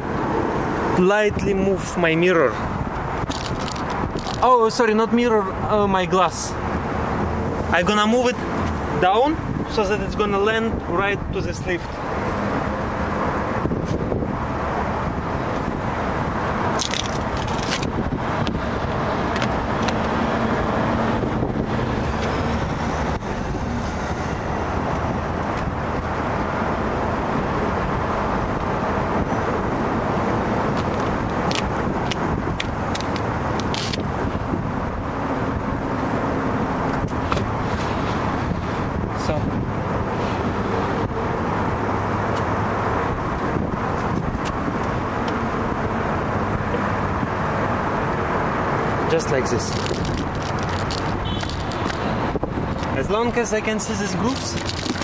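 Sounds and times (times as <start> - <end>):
vehicle rumble and hiss: 0.0 - 55.0.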